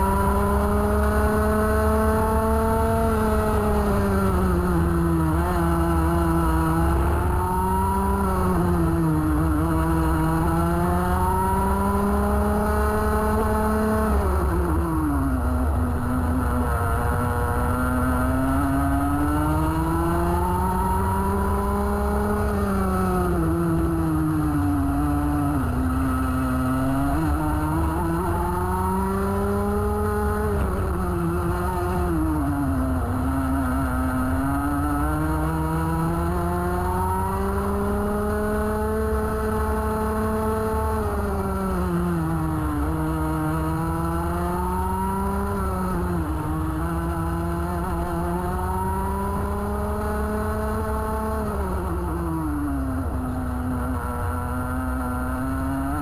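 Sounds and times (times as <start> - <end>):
kart engine at racing speed: 0.0 - 56.0.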